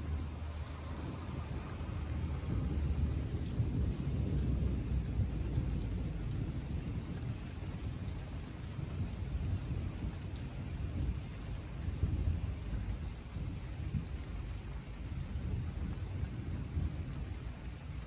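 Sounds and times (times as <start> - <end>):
rain hissing: 0.0 - 18.0
thunder rumbling: 0.0 - 18.0.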